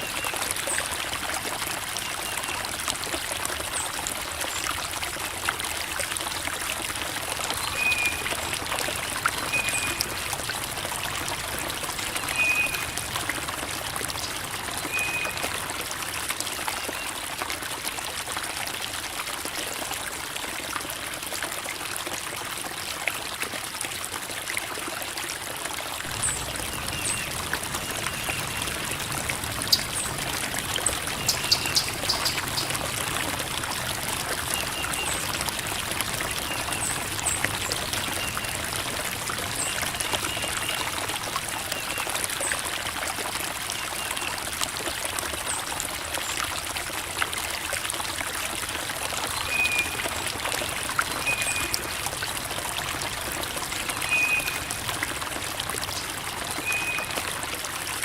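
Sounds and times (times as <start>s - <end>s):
creek water babbling: 0.0s - 58.0s.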